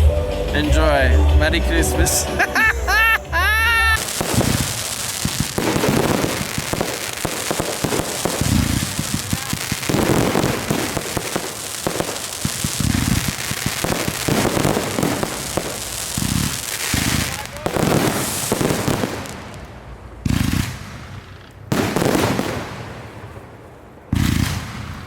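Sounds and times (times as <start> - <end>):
fireworks crackling: 0.6 - 25.0
fireworks booms: 4.0 - 25.0.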